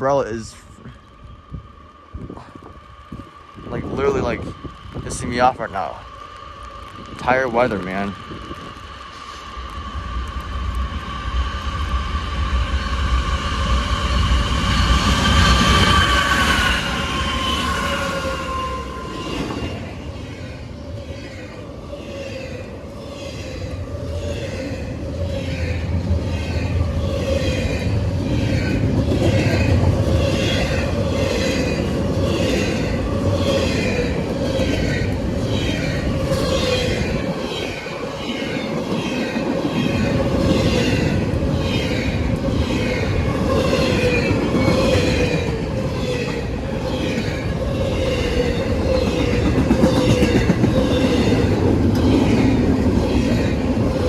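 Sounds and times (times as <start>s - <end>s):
train cars rumbling and clattering: 0.0s - 54.0s.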